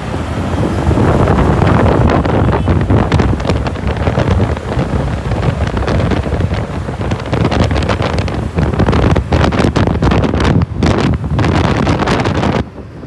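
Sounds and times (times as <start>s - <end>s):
low rumble of engines and road: 0.0s - 13.0s
wind buffeting microphone: 0.0s - 13.0s.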